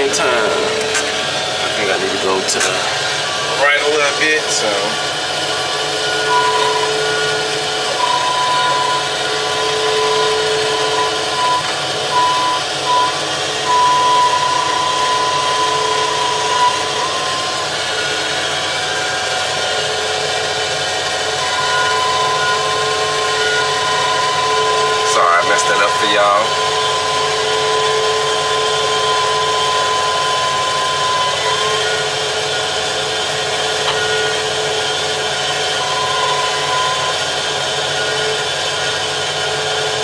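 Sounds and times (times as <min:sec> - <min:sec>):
diesel engine under load: 0:00.0 - 0:40.0
hydraulic whine: 0:00.0 - 0:40.0.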